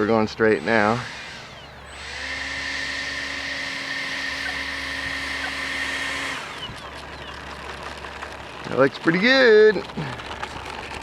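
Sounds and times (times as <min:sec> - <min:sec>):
electric fans whining: 0:00.0 - 0:11.0.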